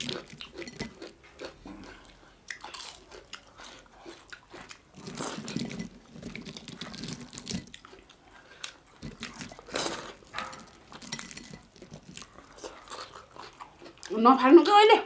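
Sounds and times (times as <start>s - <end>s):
crunching of fried fish: 0.0s - 14.2s.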